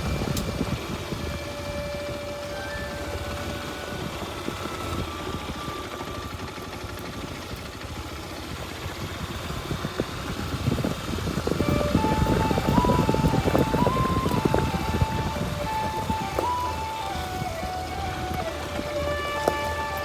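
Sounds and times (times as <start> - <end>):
motorcycle engine running at low revs: 0.0 - 20.0.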